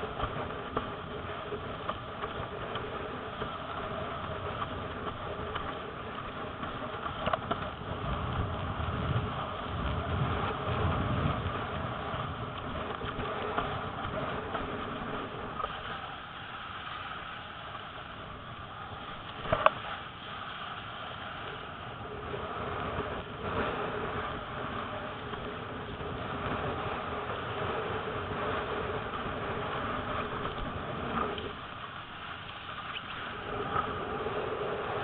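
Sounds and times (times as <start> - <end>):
rushing water: 0.0 - 35.0
wind on microphone: 0.0 - 35.0.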